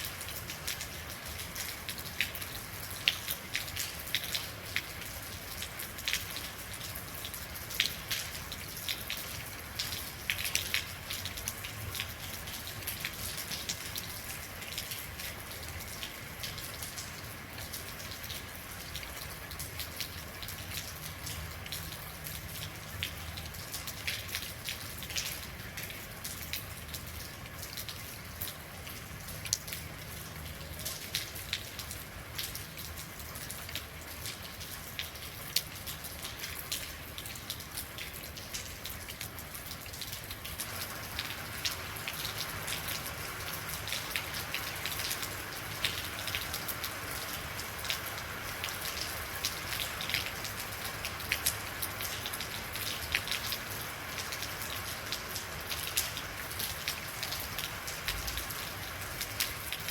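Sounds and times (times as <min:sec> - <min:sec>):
rain pattering: 0:00.0 - 0:59.9
raindrops ticking close by: 0:00.0 - 0:59.9.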